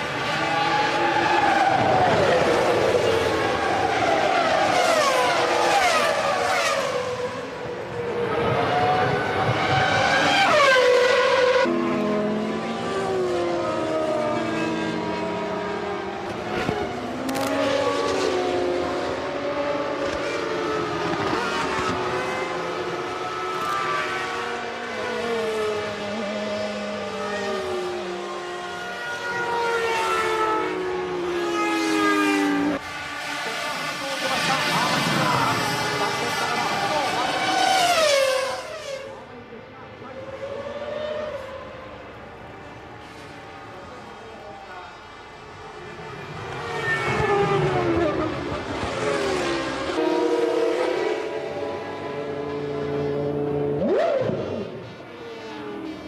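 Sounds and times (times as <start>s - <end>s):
racing car engines going past: 0.0s - 56.0s.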